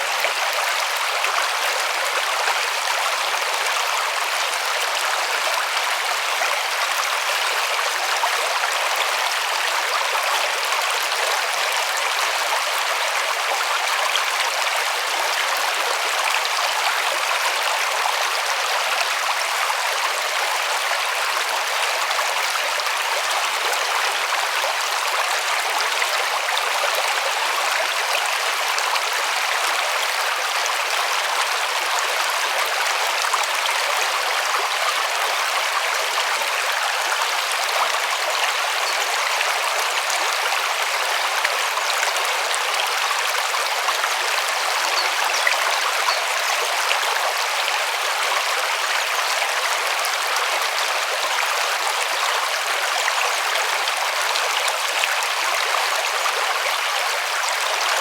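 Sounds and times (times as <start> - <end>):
river flowing over stones: 0.0 - 58.0.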